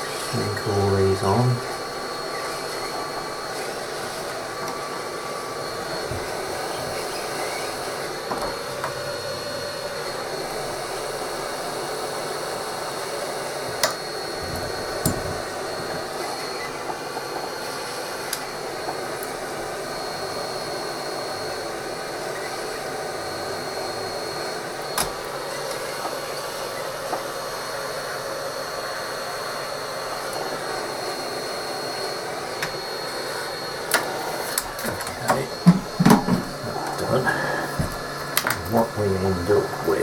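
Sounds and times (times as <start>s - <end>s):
heat gun blowing air: 0.0s - 40.0s.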